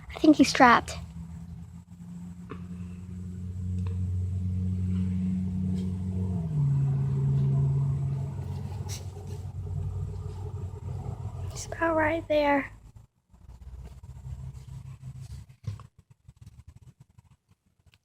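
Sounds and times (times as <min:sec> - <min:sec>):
low engine-like hum: 0:00.0 - 0:15.5.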